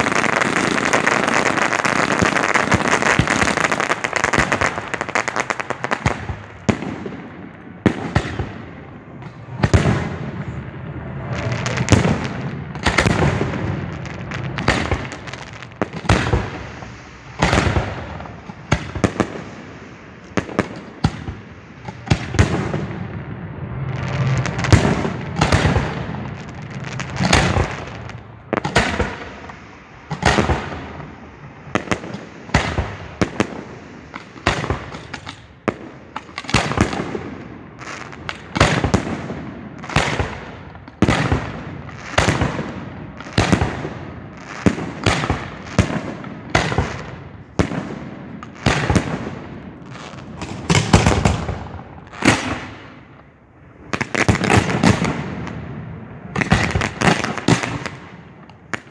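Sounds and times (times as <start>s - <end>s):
fireworks bangs: 0.0s - 58.9s
fireworks crackling: 0.0s - 58.9s.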